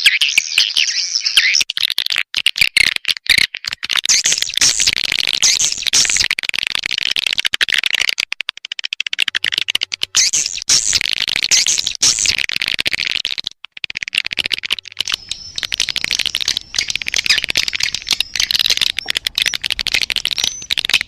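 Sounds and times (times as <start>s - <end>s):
swiftlets twittering and clicking: 3.9s - 21.0s.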